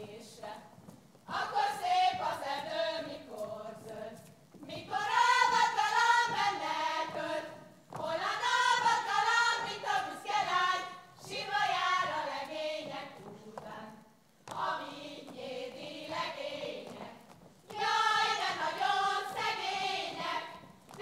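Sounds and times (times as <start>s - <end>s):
women singing without instruments: 0.0s - 21.0s.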